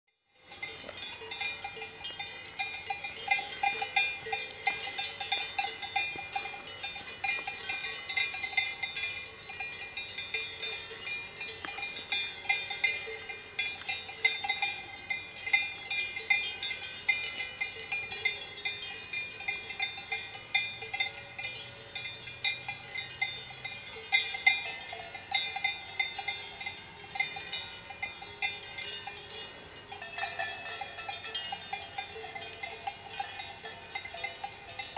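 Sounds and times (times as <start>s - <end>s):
cowbells clanking: 0.3s - 34.9s.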